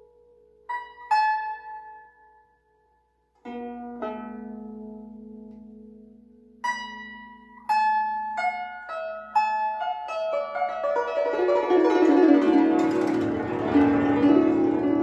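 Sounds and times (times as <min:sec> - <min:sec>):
plucked zither notes: 0:00.0 - 0:02.6, 0:03.4 - 0:15.0.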